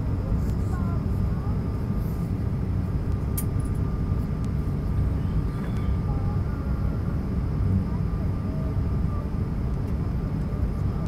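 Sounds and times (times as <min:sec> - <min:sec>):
airplane cabin rumble: 0:00.0 - 0:11.0
faint steady whine: 0:00.0 - 0:11.0.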